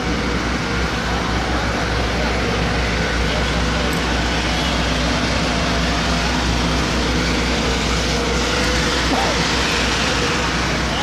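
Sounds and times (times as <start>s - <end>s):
loud engine drone: 0.0s - 11.0s.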